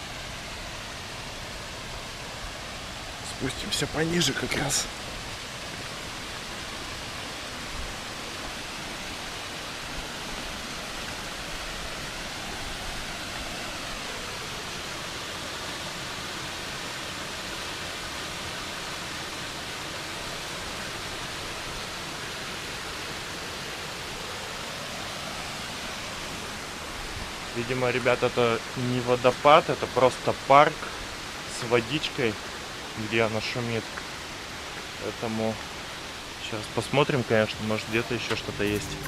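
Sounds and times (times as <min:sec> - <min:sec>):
stream flowing over rocks: 0:00.0 - 0:39.0.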